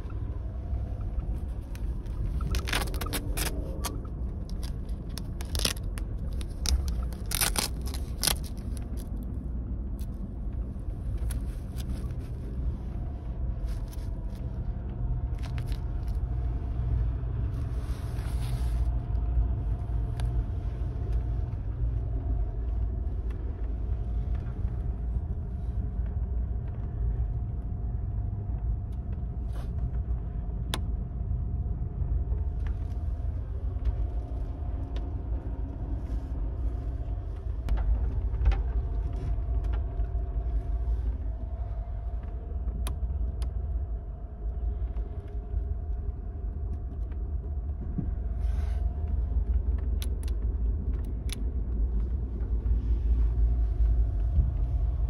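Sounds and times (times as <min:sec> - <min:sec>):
faint steady hum: 0:00.0 - 0:55.0
train car low rumble: 0:00.0 - 0:55.0.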